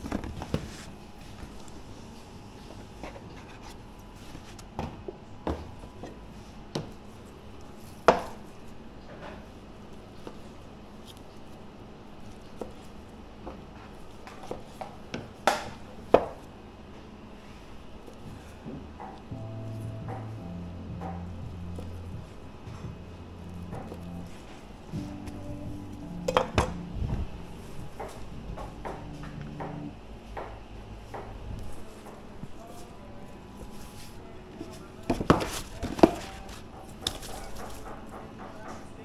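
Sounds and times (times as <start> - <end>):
low background noise: 0.0 - 39.0.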